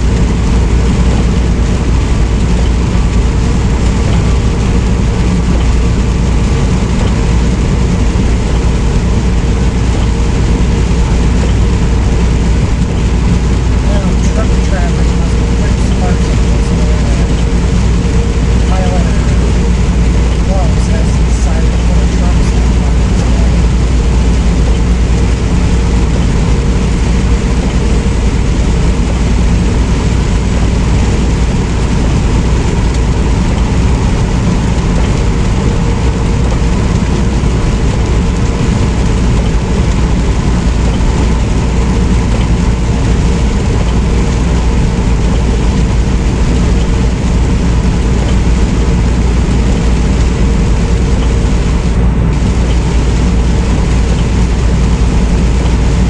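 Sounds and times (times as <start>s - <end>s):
faint steady hum: 0.0s - 56.0s
truck engine and road rumble: 0.0s - 56.0s.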